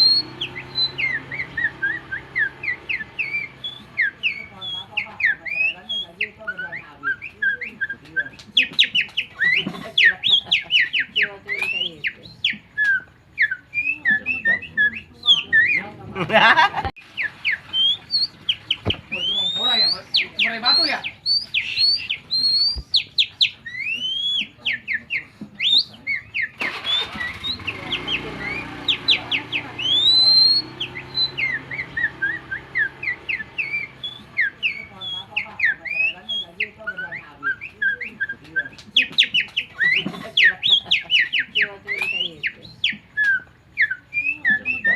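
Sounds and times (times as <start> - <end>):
man whistling birdsong: 0.0 - 15.9, 17.2 - 44.9.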